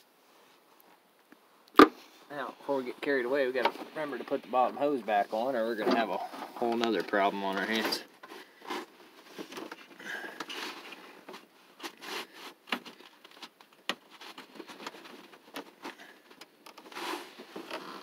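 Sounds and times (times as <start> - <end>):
rubber hose rubbing and scraping: 2.0 - 18.0.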